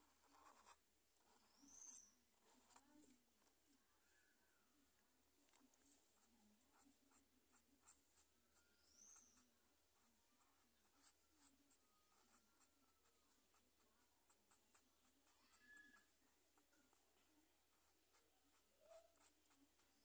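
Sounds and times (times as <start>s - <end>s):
marker scratching on paper: 0.0s - 3.5s, 5.5s - 20.0s.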